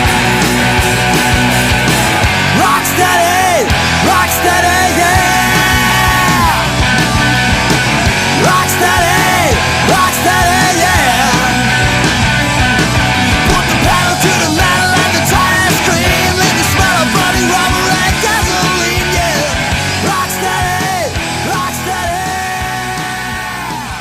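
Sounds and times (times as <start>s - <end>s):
instrumental rock music: 0.0s - 24.0s.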